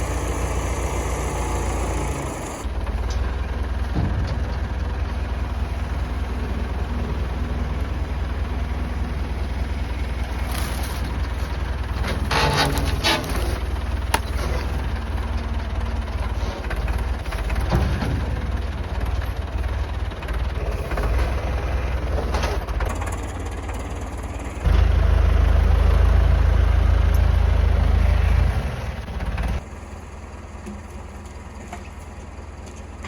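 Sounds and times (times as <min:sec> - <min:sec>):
tractor engine rumbling: 0:00.0 - 0:33.0.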